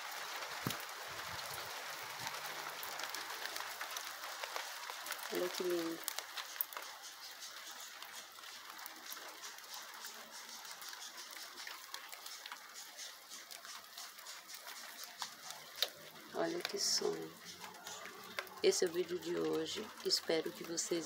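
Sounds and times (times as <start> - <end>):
light rain pattering: 0.0 - 21.0.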